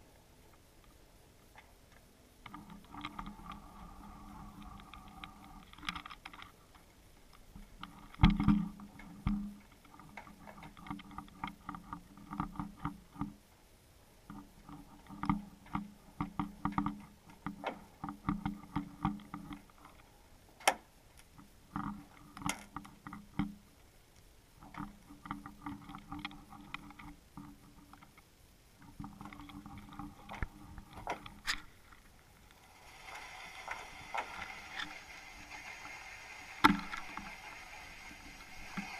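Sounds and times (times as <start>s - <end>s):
steady hiss: 0.0s - 38.9s
small clicks and knocks underwater: 0.5s - 13.6s, 14.2s - 38.9s.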